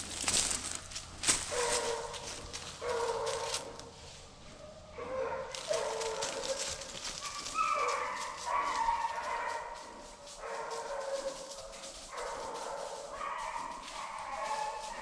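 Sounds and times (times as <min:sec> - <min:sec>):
hounds baying: 0:00.3 - 0:03.9, 0:04.5 - 0:15.0.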